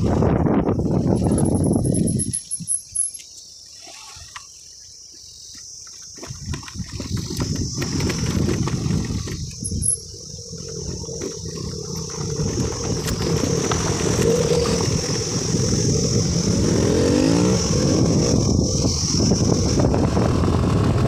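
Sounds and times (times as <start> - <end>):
wind and gravel road noise: 0.0 - 21.0.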